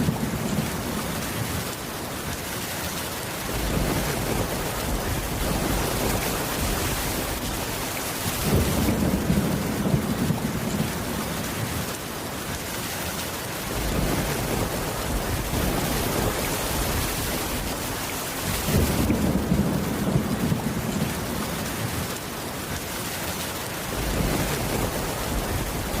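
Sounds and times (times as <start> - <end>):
thunder rumbling: 0.0 - 1.8, 3.4 - 12.0, 13.7 - 22.2, 23.8 - 26.0
steady rain falling: 0.0 - 26.0.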